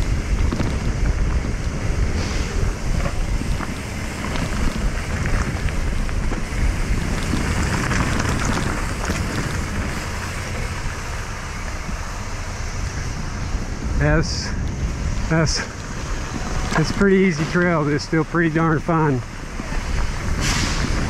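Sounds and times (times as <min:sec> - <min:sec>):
bike tyres humming on dirt: 0:00.0 - 0:21.0
wind buffeting microphone: 0:00.0 - 0:21.0.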